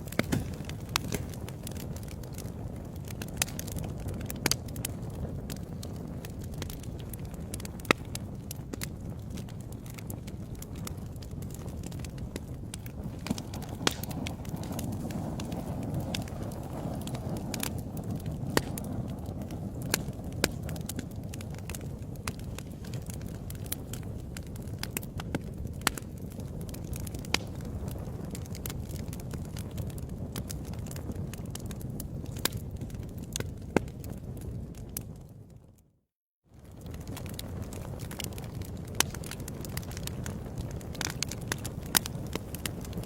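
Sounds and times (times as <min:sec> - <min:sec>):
fire crackling in fireplace: 0:00.0 - 0:43.0.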